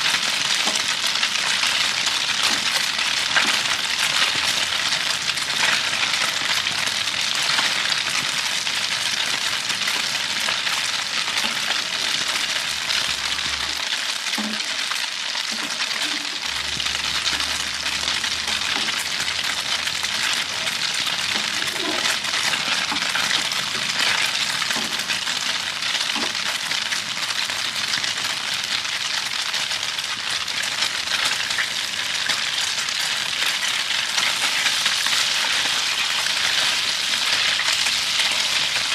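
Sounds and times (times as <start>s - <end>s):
food sizzling in hot oil: 0.0s - 38.9s.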